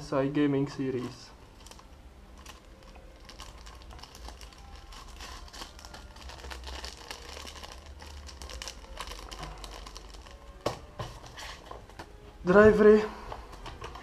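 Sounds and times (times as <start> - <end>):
paper and plastic crinkling: 0.9 - 12.2.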